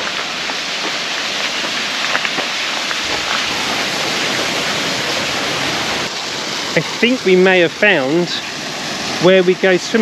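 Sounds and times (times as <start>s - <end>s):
stream water flowing: 0.0s - 10.0s.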